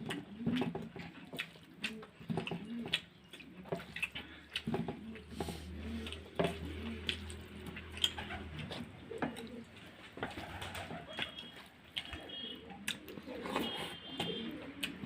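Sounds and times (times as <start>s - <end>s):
chewing and mouth smacks: 0.0s - 15.0s
pigeons cooing: 0.0s - 15.0s.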